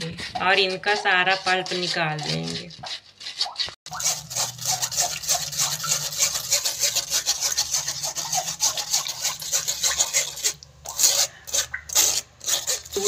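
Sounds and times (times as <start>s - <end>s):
spoon scraping through mesh strainer: 0.0s - 13.0s.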